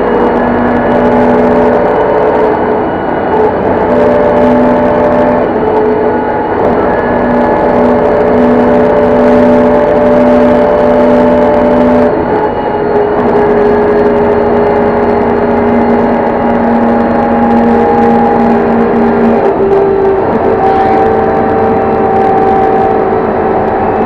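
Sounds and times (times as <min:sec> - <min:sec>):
bus engine whining: 0:00.0 - 0:24.0
road noise: 0:00.0 - 0:24.0.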